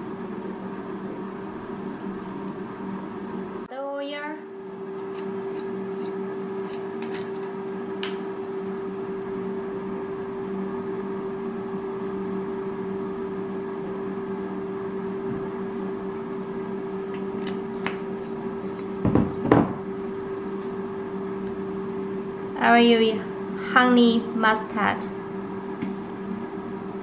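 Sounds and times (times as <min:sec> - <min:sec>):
air fryer humming: 0:00.0 - 0:27.0.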